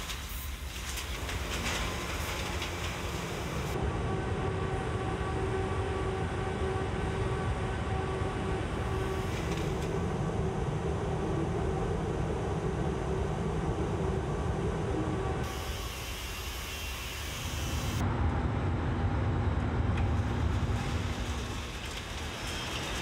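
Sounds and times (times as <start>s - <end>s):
factory machinery rumble: 0.0s - 23.0s.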